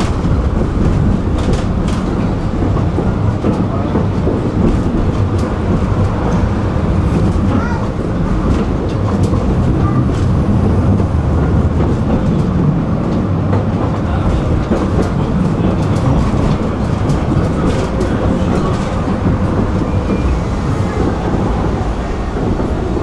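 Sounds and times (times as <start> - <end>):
rail clicks and knocks: 0.0 - 23.0
tram wheels rumbling: 0.0 - 23.0.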